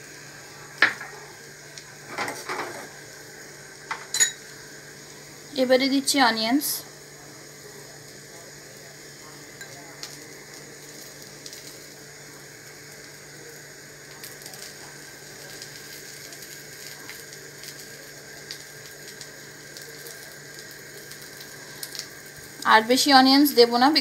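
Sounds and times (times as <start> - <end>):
food sizzling in a pan: 0.0 - 24.0
steady low hum: 0.0 - 24.0.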